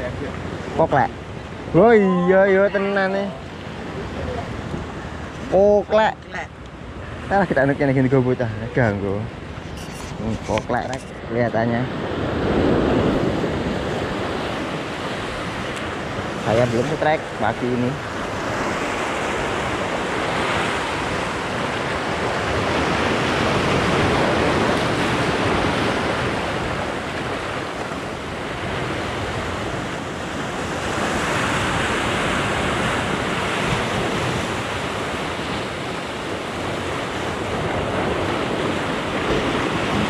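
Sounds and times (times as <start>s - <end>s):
surf breaking on rocky shore: 0.0s - 6.2s, 6.8s - 40.0s.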